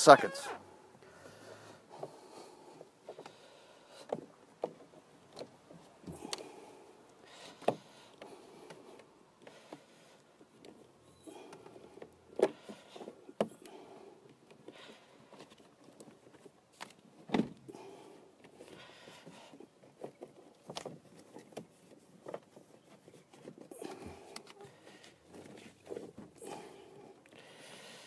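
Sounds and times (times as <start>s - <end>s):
hands handling cables: 4.0s - 17.7s, 18.4s - 27.4s.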